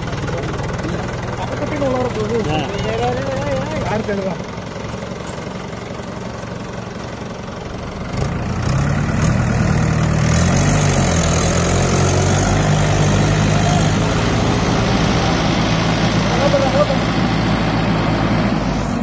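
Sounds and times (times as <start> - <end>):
tractor engines running: 0.0 - 19.0.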